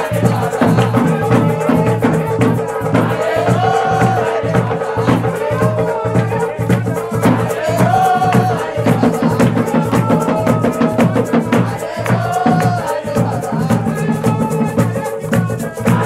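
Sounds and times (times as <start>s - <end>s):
rhythmic drumming: 0.0s - 16.0s.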